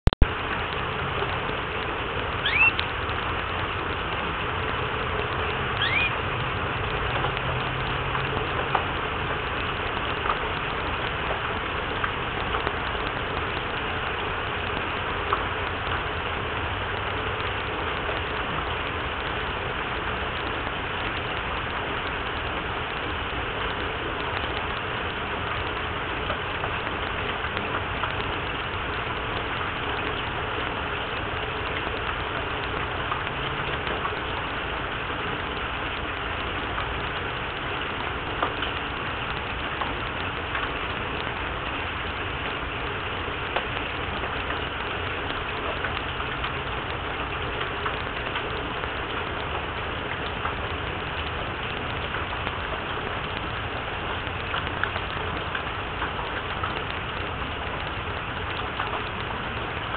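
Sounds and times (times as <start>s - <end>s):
steady rain falling: 0.0s - 59.9s
drops ticking: 0.2s - 59.9s.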